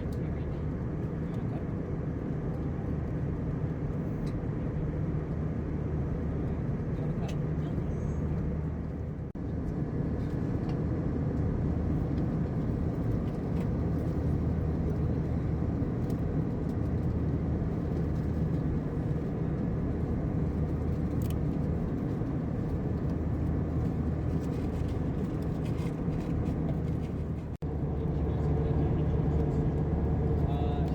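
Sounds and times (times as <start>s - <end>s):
airliner cabin rumble: 0.0s - 30.9s.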